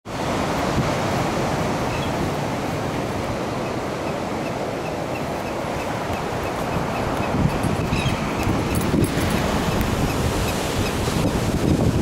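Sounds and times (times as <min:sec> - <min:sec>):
ocean surf rushing: 0:00.1 - 0:12.0
wind on microphone: 0:00.1 - 0:12.0.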